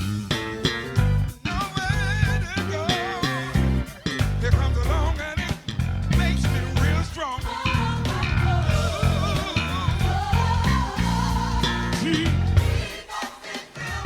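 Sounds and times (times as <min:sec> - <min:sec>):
stepping bass line: 0:00.0 - 0:13.0.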